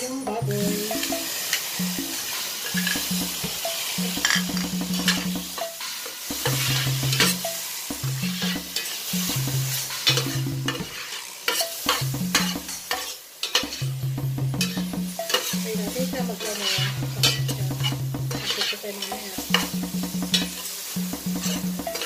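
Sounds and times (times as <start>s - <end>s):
food sizzling in oil: 0.0s - 22.0s
metal spatula scraping frying pan: 0.8s - 14.0s, 14.6s - 22.0s.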